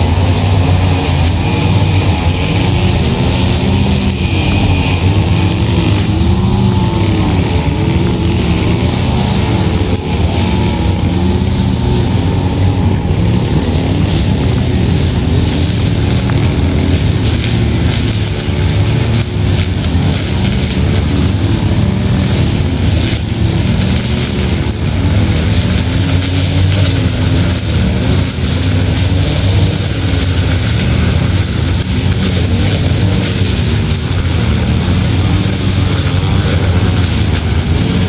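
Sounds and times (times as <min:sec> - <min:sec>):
constant rushing noise: 0:00.0 - 0:38.0
vehicle engine running: 0:00.0 - 0:38.0.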